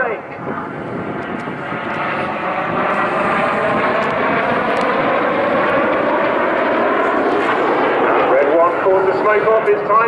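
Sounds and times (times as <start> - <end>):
jets roaring overhead: 0.0 - 10.0.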